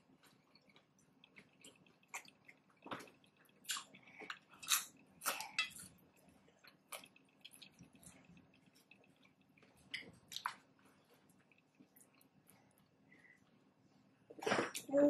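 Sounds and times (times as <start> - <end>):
person chewing with crunches: 0.0 - 12.9.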